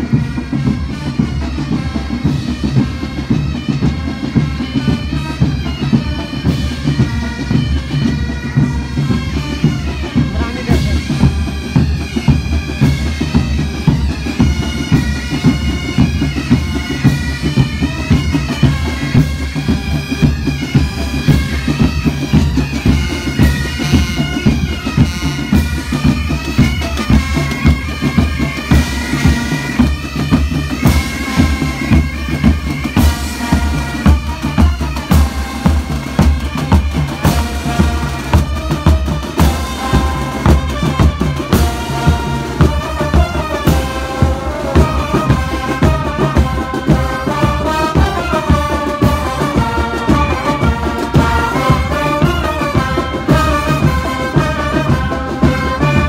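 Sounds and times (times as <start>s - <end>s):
bagpipes playing a tune: 0.0s - 56.0s
steady drum beat: 0.0s - 56.0s.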